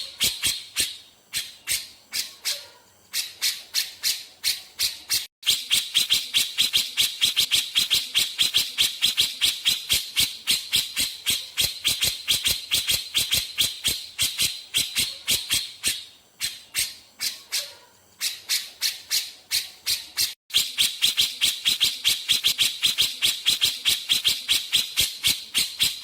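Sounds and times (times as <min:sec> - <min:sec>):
bird chattering calls: 0:00.0 - 0:26.0.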